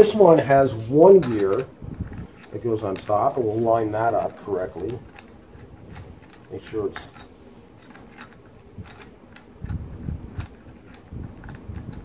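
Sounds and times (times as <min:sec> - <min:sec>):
metallic clicks of bicycle sprockets: 0:01.2 - 0:12.0.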